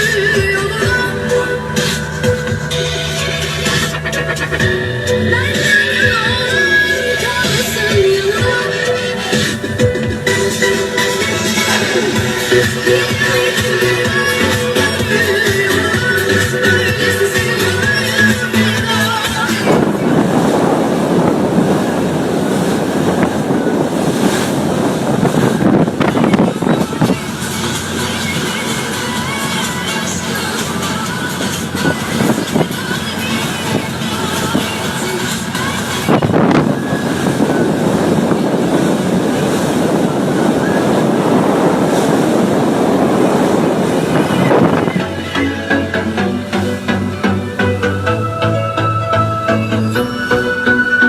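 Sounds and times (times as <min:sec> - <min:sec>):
music: 0:00.0 - 0:22.3, 0:23.0 - 0:51.0
wind buffeting microphone: 0:00.0 - 0:48.1
water rushing and splashing: 0:00.0 - 0:51.0.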